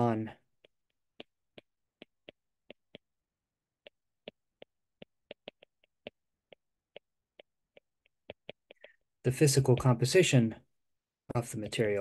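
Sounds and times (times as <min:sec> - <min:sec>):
stylus tapping on tablet: 0:00.4 - 0:10.2.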